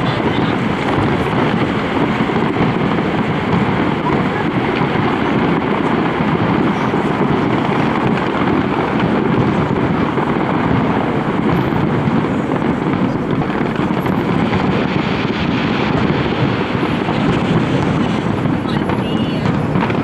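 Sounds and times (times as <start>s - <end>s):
distant fireworks rumble and crackle: 0.0s - 20.0s
wind on microphone: 0.0s - 20.0s.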